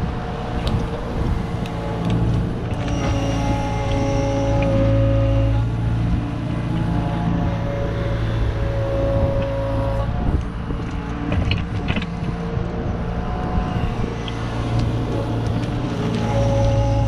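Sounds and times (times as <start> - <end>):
diesel engine under load: 0.0 - 17.0
hydraulic whine: 0.0 - 17.0.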